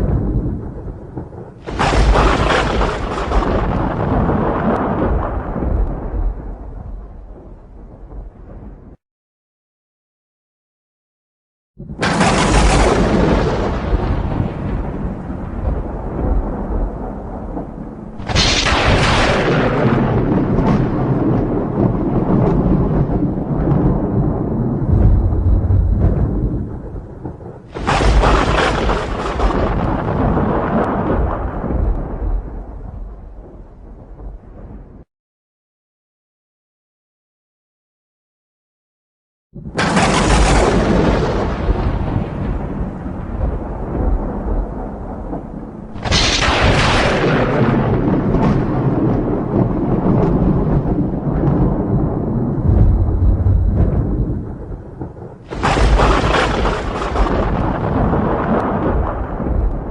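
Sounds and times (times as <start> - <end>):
thunder crack and rumble: 0.0 - 9.0, 11.8 - 35.1, 39.6 - 59.9.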